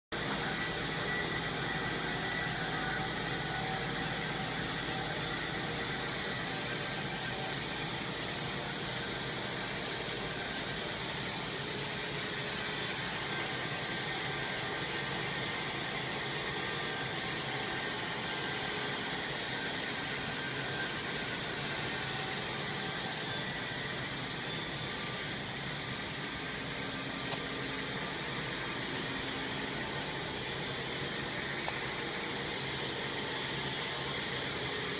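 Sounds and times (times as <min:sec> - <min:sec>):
pipe extrusion machinery din: 0:00.2 - 0:34.9.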